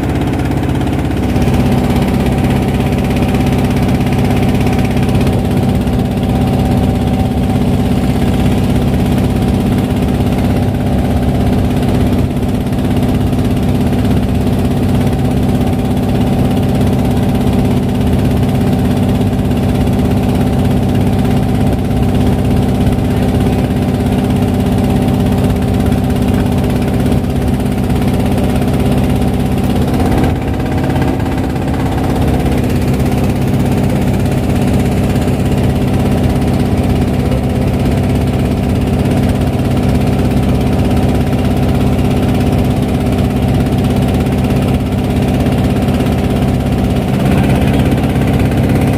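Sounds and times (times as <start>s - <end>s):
boat engine droning: 0.0s - 48.9s.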